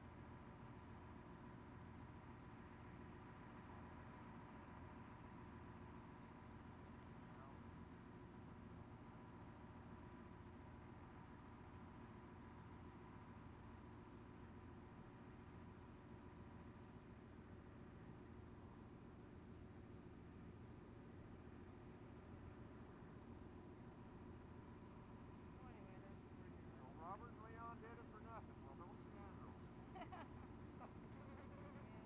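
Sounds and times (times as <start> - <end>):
cricket chirping: 0.0 - 32.0.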